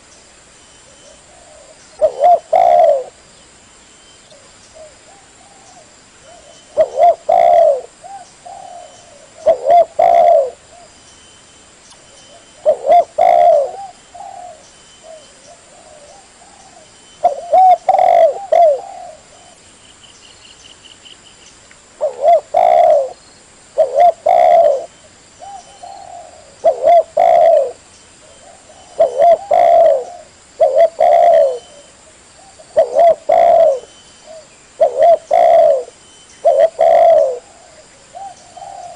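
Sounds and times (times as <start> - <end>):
dove cooing: 1.0 - 3.2, 4.3 - 10.9, 12.3 - 19.6, 22.0 - 23.2, 23.8 - 38.9.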